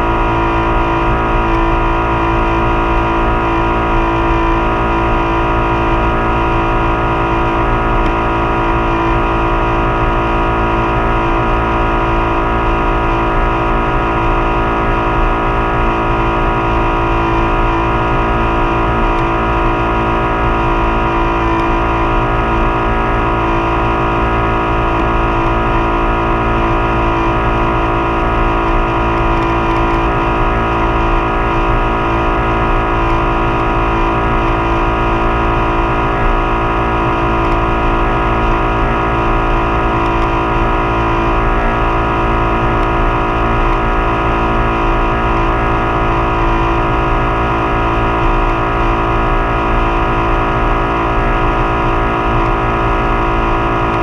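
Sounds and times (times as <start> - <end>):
motorboat engine drone: 0.0 - 54.0.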